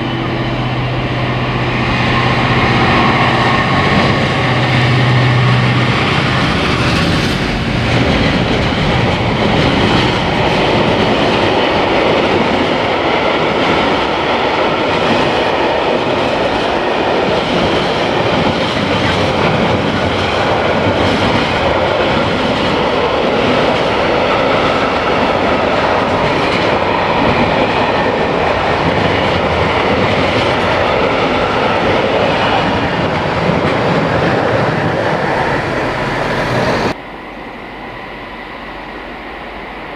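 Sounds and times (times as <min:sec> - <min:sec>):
locomotive engine: 0:00.0 - 0:13.3, 0:17.5 - 0:38.5
train wheels rumbling on rails: 0:00.0 - 0:37.0.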